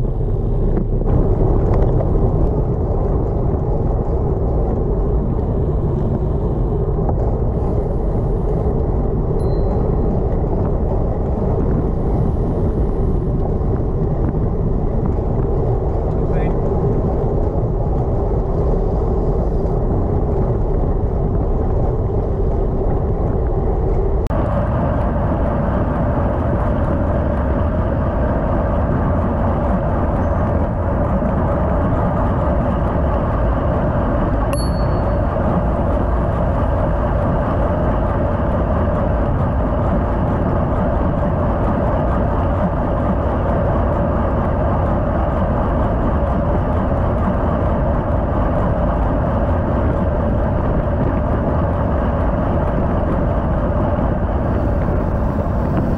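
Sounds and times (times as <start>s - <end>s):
wind and road noise rushing: 0.0s - 55.9s.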